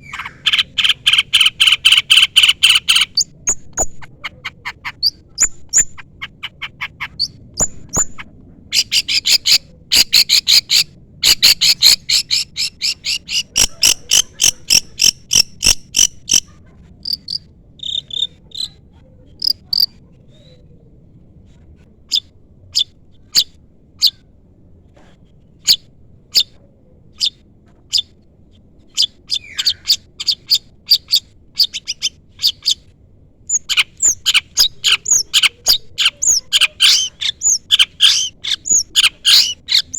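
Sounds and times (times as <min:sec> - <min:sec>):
shrike chirping and trilling: 0:00.0 - 0:18.8, 0:19.4 - 0:20.0, 0:22.1 - 0:24.2, 0:27.2 - 0:28.2, 0:28.8 - 0:32.9, 0:33.5 - 0:39.9.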